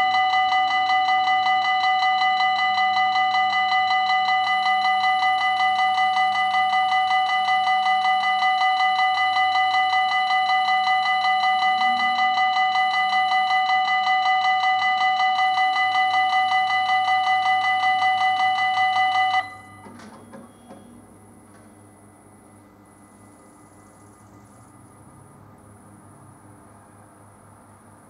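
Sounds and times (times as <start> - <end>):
crossing warning bell ringing: 0.0 - 25.0.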